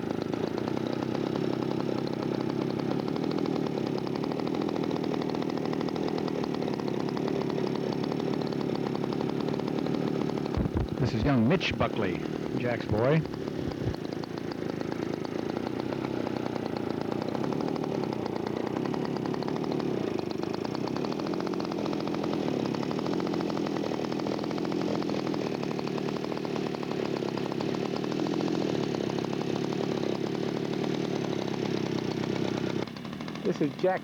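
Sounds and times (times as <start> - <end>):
model airplane engine running: 0.0 - 34.0.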